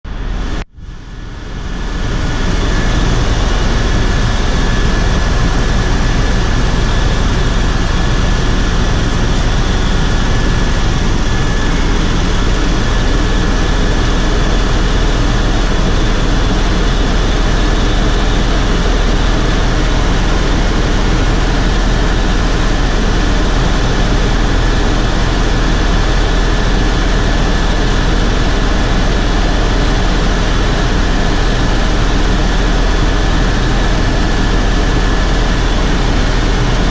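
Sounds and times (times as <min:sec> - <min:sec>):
helicopter rotor and engine rumble: 0:00.1 - 0:36.9
high whine: 0:00.1 - 0:36.9.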